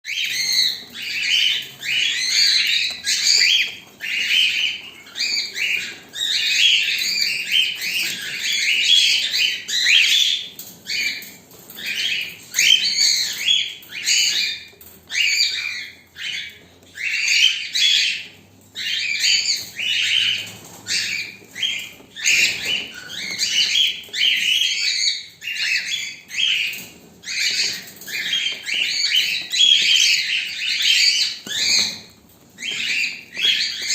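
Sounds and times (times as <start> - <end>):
parrots chirping and squawking: 0.1 - 33.9.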